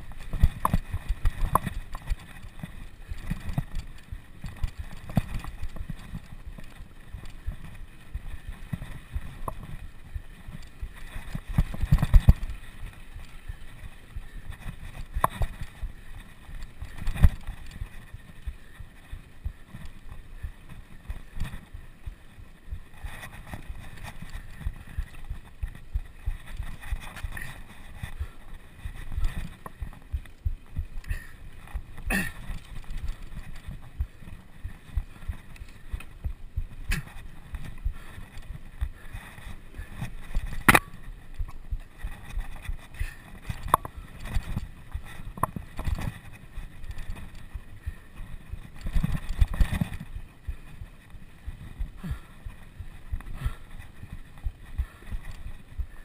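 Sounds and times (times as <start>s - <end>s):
bicycle jolting and rattling: 0.0s - 56.0s.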